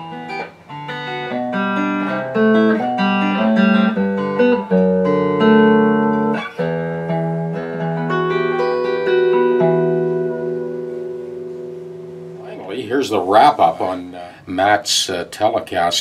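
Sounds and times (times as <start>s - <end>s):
electric guitar chords and notes: 0.0s - 14.5s.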